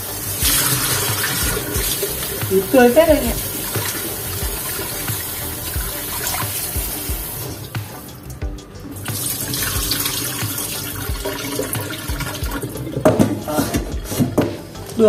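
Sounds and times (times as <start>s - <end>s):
water pouring into sink: 0.0s - 8.0s, 9.1s - 14.3s
tap water running into steel bowl: 0.0s - 8.1s, 9.0s - 14.5s.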